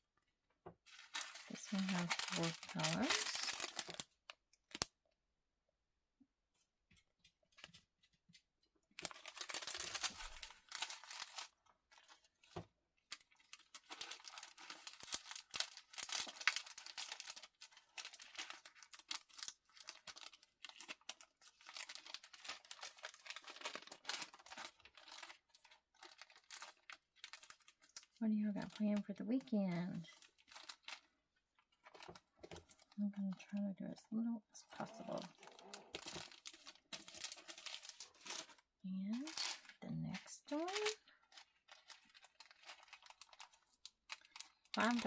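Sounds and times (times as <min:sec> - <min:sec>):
plastic packaging crinkling: 0:00.8 - 0:04.9, 0:08.9 - 0:45.0.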